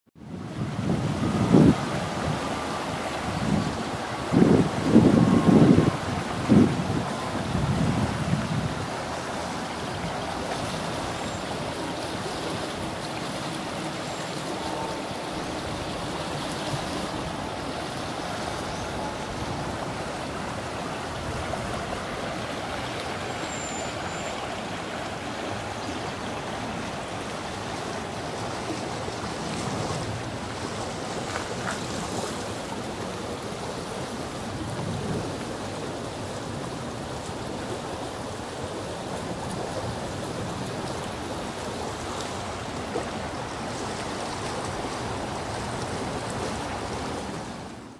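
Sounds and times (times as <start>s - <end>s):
river flowing over rocks: 0.2s - 47.9s.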